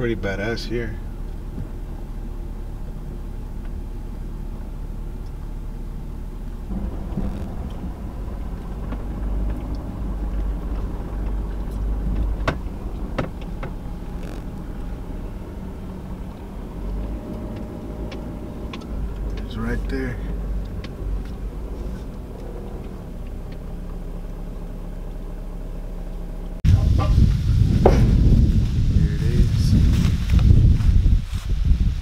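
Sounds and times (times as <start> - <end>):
truck engine and tyres rumbling: 0.0 - 32.0.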